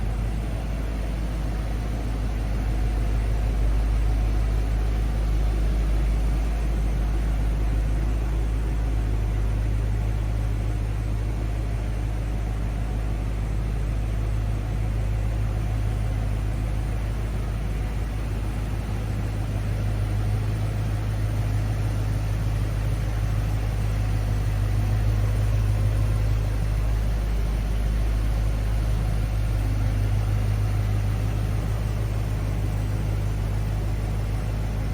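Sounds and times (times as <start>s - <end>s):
pickup engine rumbling: 0.0s - 34.9s.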